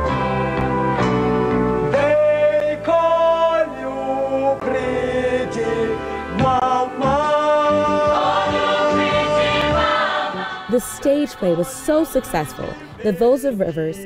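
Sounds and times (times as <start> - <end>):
backing music: 0.0 - 14.0
voices singing together: 1.9 - 14.0.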